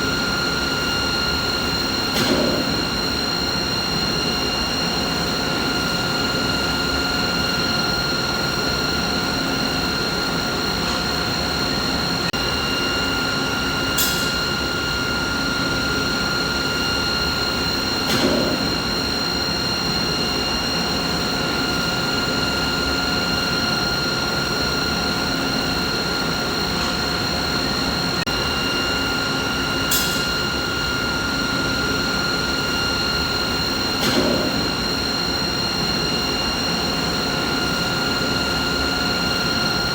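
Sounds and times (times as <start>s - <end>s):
high-pitched machine whine: 0.0s - 39.9s.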